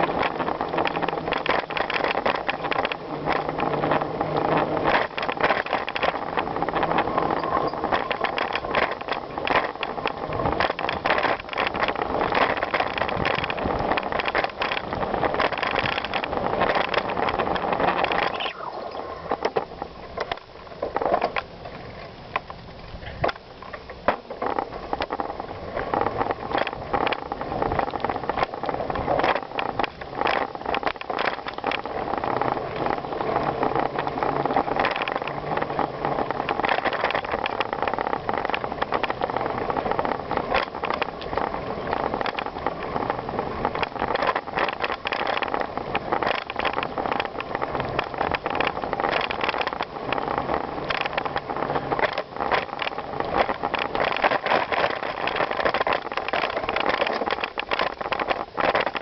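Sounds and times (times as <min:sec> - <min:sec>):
bicycle tyres crunching gravel: 0:00.0 - 0:59.0
bike rattling: 0:00.0 - 0:59.0.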